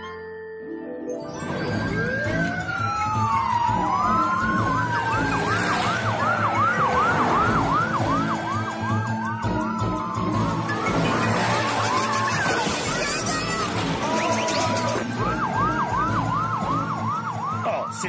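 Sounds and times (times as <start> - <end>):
police sirens wailing: 1.2 - 18.0.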